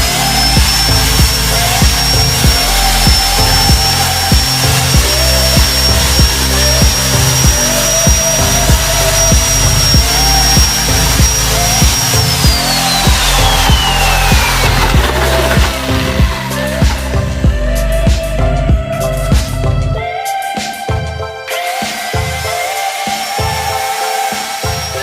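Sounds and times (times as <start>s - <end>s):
high-pitched whine: 0.0s - 20.0s, 21.5s - 25.0s
background music with beat: 0.0s - 25.0s.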